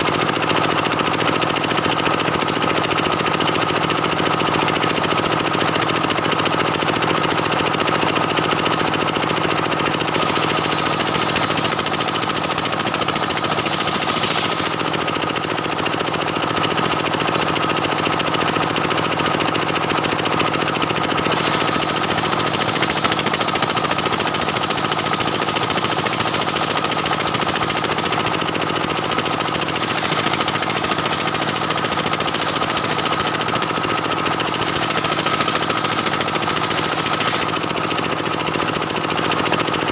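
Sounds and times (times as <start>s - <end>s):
chainsaw cutting through log: 4.7s - 39.8s.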